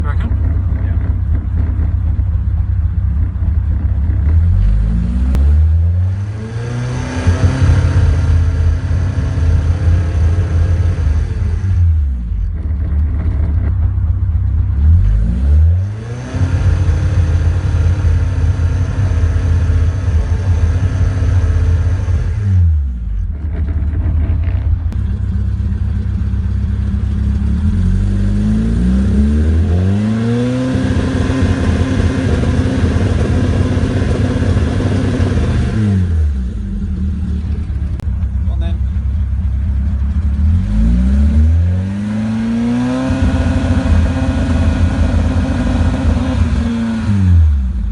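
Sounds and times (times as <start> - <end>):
engine revving and idling: 0.0 - 47.9.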